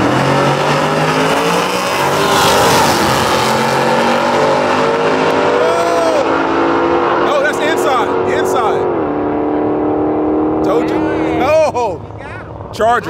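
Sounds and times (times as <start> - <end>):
car engines accelerating: 0.0 - 13.0.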